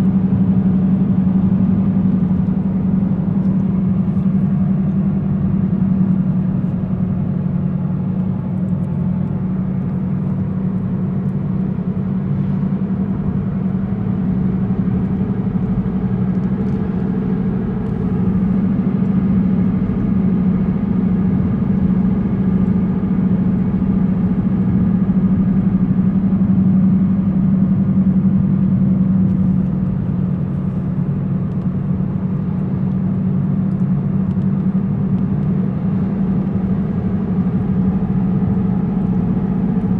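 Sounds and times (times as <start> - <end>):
car driving hum and rumble: 0.0 - 39.9.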